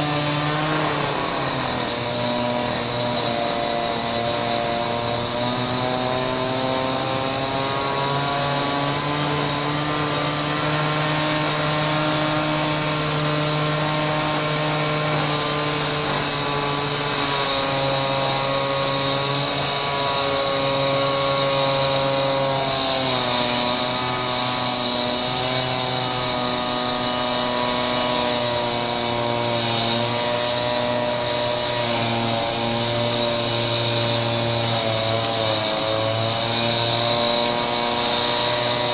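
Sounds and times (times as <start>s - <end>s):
concrete saw cutting stone: 0.0s - 38.9s.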